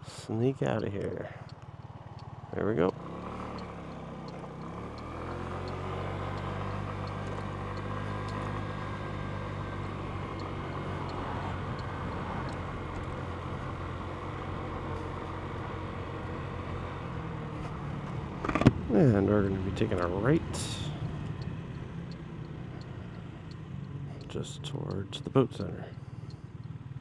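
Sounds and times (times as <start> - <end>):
scooter engine running: 0.1 - 27.0
faint high ticks: 0.7 - 27.0.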